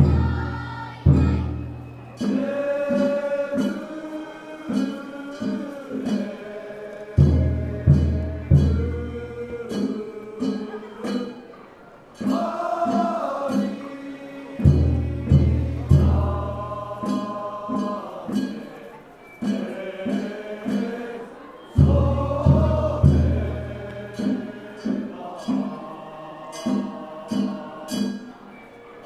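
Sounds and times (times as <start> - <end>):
men chanting: 0.0 - 11.5, 12.2 - 28.6
sharp percussive beats: 0.0 - 11.5, 14.6 - 21.0, 21.8 - 28.4.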